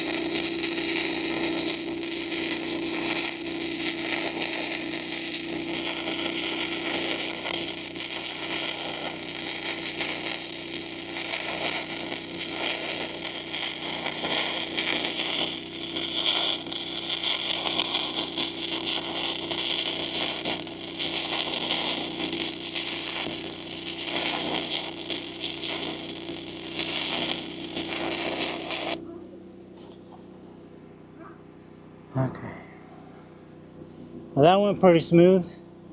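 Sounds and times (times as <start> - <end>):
welder hum: 0.0 - 29.0
welding arc crackling: 0.0 - 29.0.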